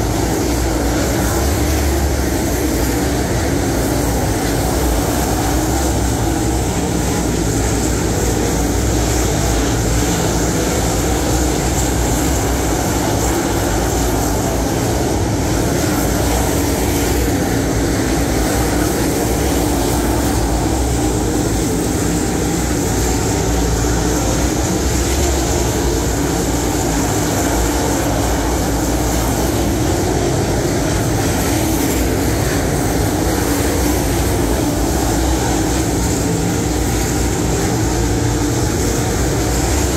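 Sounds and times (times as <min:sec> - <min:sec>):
race car engines roaring: 0:00.0 - 0:39.9.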